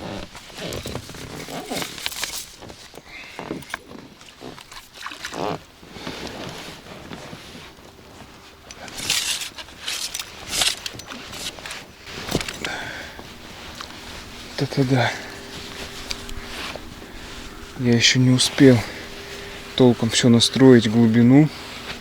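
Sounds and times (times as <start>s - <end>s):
handling knocks and rustles: 0.0s - 22.0s.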